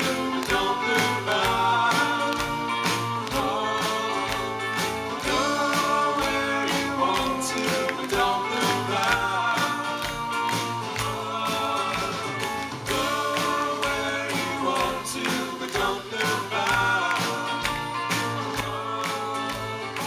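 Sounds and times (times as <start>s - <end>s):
live band playing: 0.0s - 20.0s
people singing: 0.0s - 20.0s
steady percussive beat: 0.0s - 20.0s.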